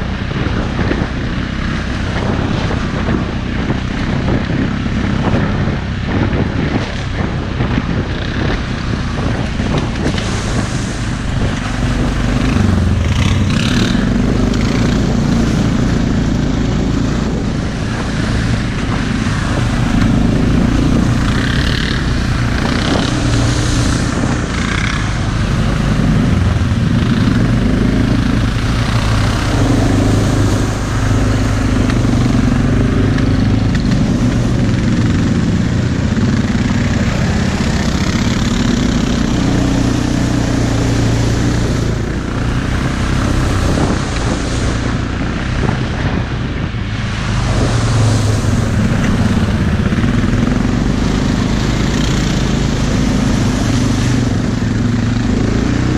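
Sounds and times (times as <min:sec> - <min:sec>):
atv engine revving: 0:00.0 - 0:55.9.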